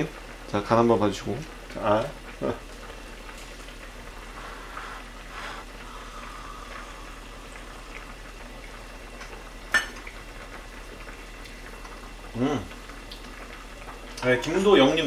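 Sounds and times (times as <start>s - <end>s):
stew bubbling in a pot: 0.0s - 15.0s.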